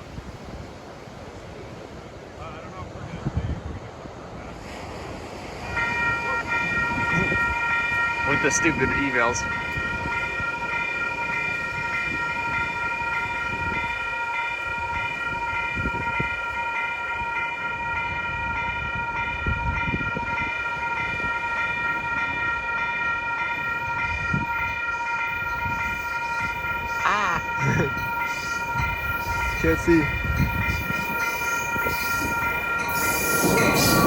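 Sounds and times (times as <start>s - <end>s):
crossing warning bell ringing: 5.0s - 34.0s.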